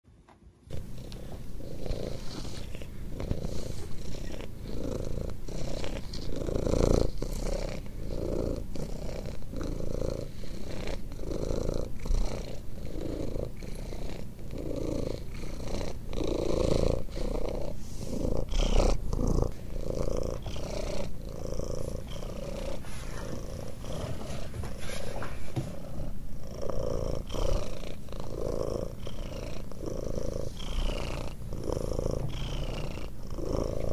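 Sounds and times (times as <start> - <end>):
cat purring loudly: 0.7 - 33.9.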